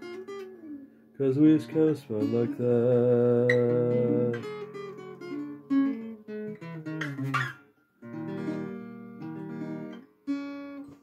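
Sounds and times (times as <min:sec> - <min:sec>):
acoustic guitar blues lick: 0:00.0 - 0:11.0.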